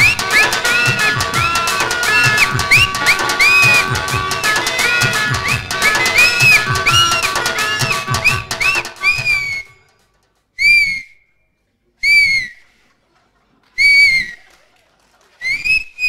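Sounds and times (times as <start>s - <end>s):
shrill finger whistles: 0.0s - 10.0s, 10.6s - 12.7s, 13.8s - 14.5s, 15.4s - 16.0s.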